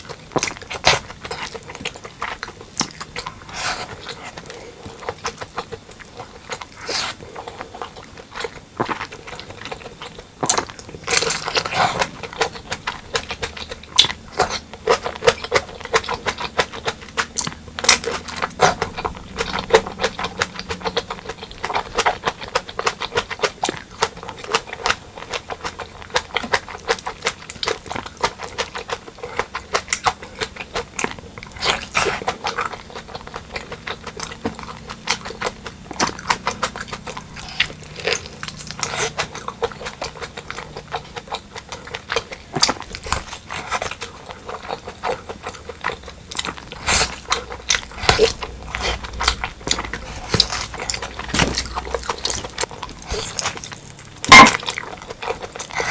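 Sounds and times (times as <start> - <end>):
wet chewing and lip smacks: 0.0 - 55.9.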